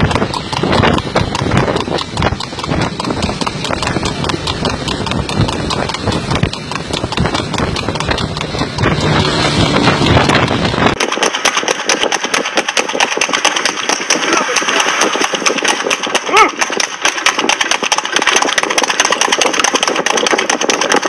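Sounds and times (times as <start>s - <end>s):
horse hoofbeats on asphalt: 0.0s - 21.0s
motor vehicle engine running: 0.0s - 21.0s.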